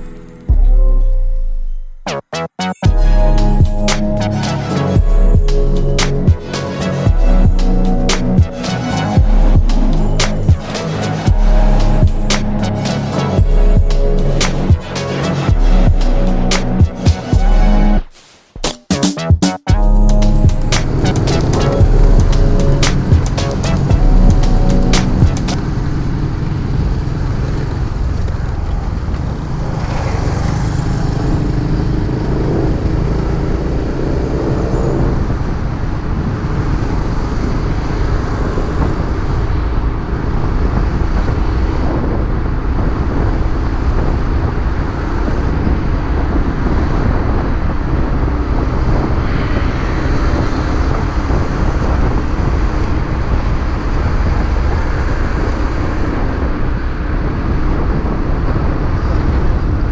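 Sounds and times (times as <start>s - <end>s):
road traffic: 2.9s - 18.6s, 19.8s - 59.9s.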